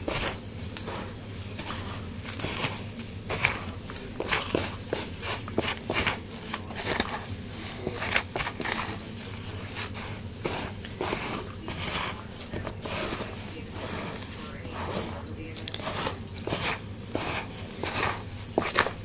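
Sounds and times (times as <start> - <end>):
hand stirring dry feed mix: 0.0 - 19.0.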